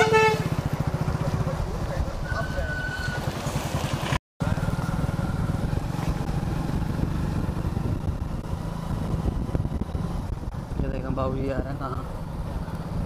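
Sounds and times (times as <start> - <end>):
vehicle engine running: 0.0 - 2.2, 3.3 - 13.0.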